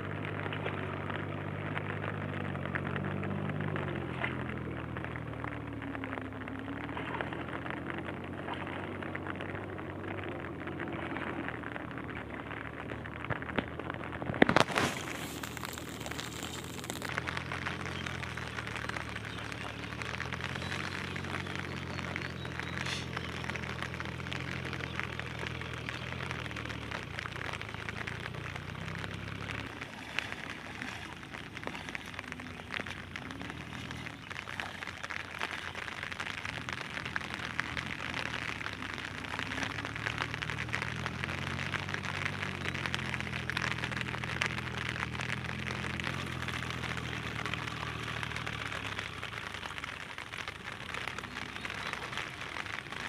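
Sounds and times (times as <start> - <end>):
low steady hum: 0.0 - 53.0
rain on water: 0.0 - 53.0.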